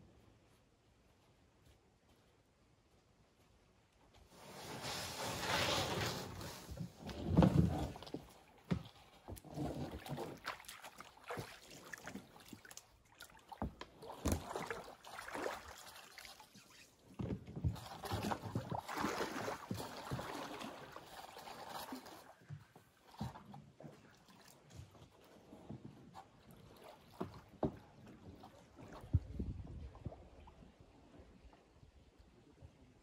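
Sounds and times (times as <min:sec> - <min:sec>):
water splashing and sloshing: 0:04.3 - 0:32.2.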